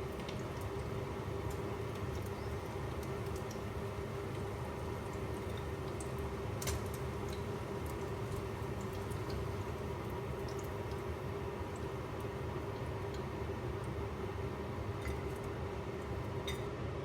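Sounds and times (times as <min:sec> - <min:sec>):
room hum with low tone: 0:00.0 - 0:17.0.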